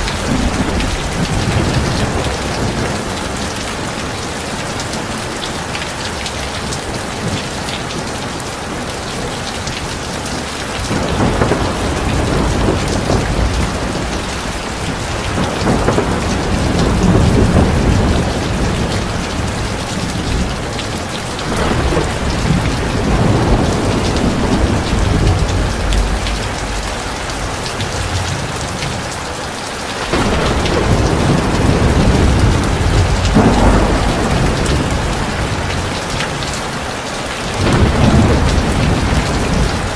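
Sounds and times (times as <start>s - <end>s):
rolling thunder: 0.0s - 4.6s, 9.9s - 39.9s
heavy rain falling: 0.0s - 39.9s.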